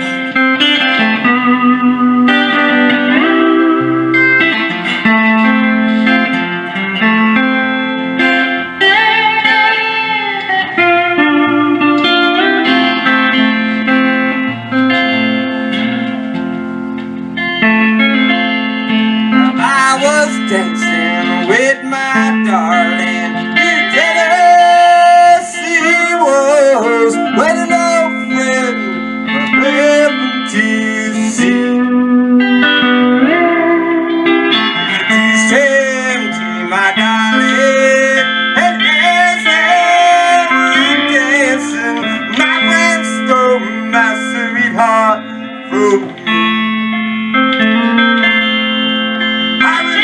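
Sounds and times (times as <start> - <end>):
electric guitar bending notes: 0.0 - 50.0
steady bass line: 0.0 - 50.0.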